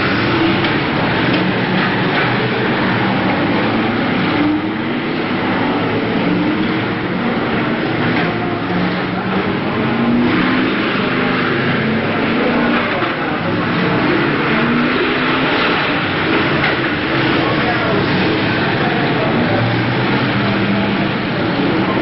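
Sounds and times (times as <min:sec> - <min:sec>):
race car engines: 0:00.0 - 0:22.0.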